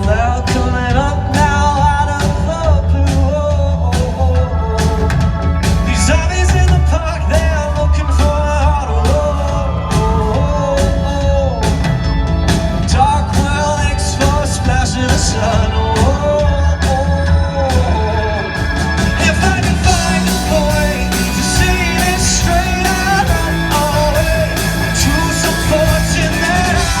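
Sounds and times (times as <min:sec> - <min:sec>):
man singing: 0:00.0 - 0:12.2, 0:12.8 - 0:27.0
rock band playing live: 0:00.0 - 0:27.0.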